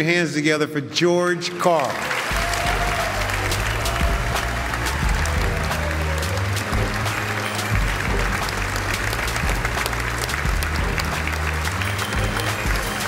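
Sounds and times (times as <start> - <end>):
audience applauding: 1.6 - 13.0
music with prominent bass line: 2.4 - 13.0.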